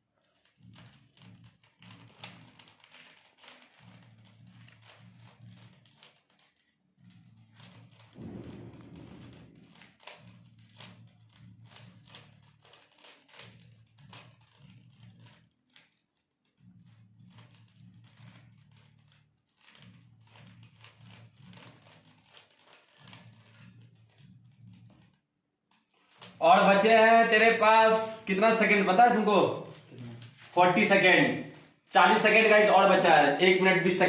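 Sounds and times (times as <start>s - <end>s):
puzzle cube clicking and rattling: 0.2s - 34.0s.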